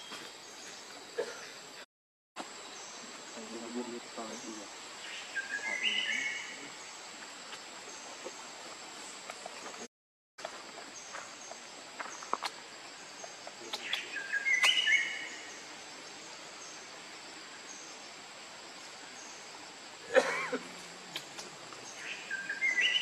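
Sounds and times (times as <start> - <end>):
insect hum: 0.0 - 1.8, 2.4 - 23.0.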